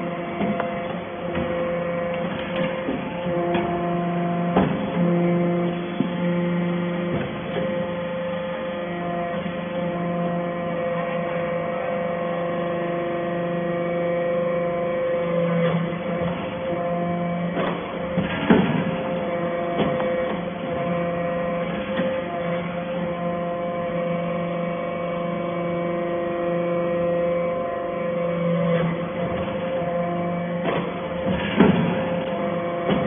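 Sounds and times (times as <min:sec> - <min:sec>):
hydraulic unit humming: 0:00.0 - 0:33.0.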